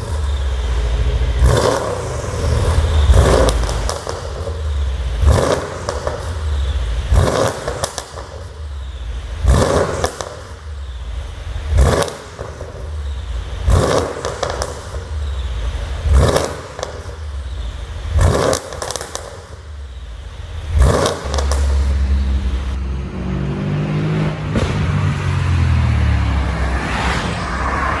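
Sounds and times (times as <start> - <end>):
car engine revving: 0.0 - 28.0
exhaust bangs and crackles: 0.0 - 28.0.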